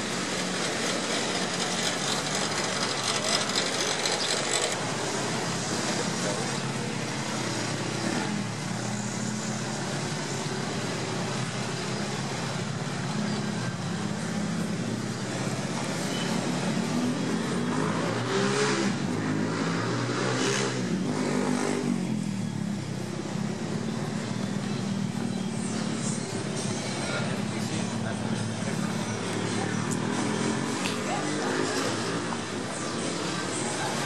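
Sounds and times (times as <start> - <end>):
idling vehicle engines hum: 0.0 - 34.0
vehicles passing by: 0.0 - 34.0.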